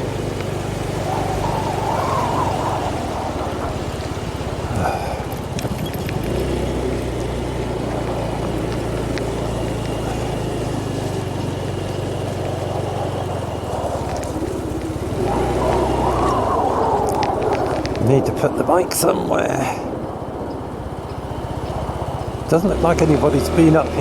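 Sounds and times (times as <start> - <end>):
motorbike engine running: 0.0 - 18.2, 19.4 - 24.0
rushing background noise: 0.0 - 24.0.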